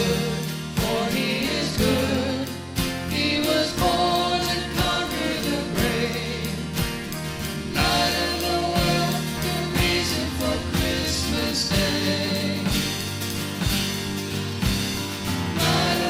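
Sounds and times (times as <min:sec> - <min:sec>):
worship band music: 0:00.0 - 0:16.0
drum hits: 0:02.8 - 0:16.0.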